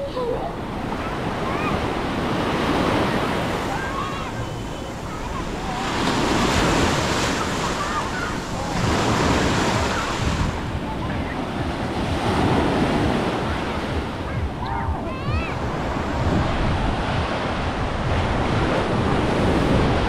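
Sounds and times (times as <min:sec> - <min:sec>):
sea waves washing onto beach: 0:00.0 - 0:20.0
wind rumbling on microphone: 0:00.0 - 0:20.0.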